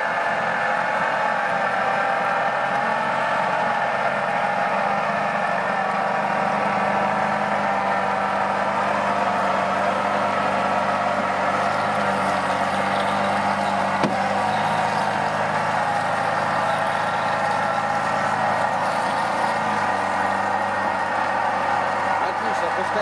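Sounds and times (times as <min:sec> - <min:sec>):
car engine droning: 0:00.0 - 0:23.0.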